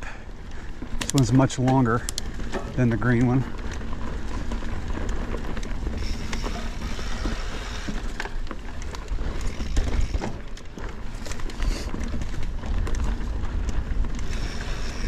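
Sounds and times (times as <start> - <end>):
tyres rumbling on dirt: 0.0 - 15.0
chain and frame rattling: 1.0 - 15.0.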